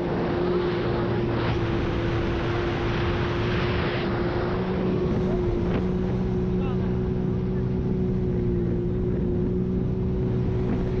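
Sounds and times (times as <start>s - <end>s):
jet ski engine drone: 0.0s - 11.0s
rushing water: 0.0s - 11.0s.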